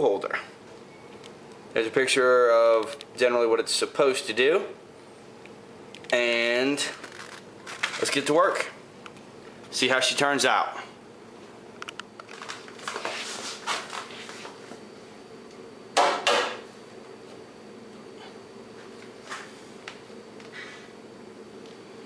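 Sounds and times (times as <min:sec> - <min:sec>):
steady background buzz: 0:00.0 - 0:22.0.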